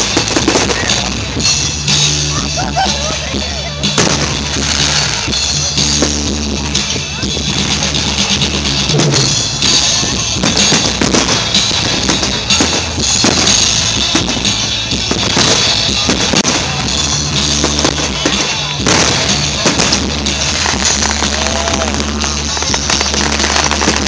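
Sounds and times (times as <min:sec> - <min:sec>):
fireworks bangs and crackles: 0:00.0 - 0:24.0
loud music with bass: 0:00.0 - 0:24.0.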